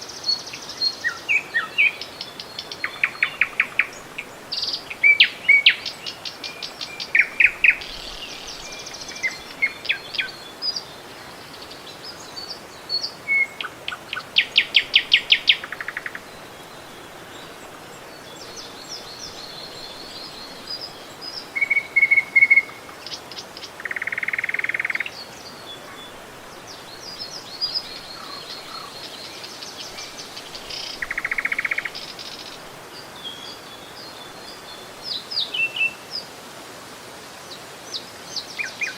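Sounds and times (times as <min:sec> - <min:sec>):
songbirds singing and trilling: 0:00.0 - 0:36.3.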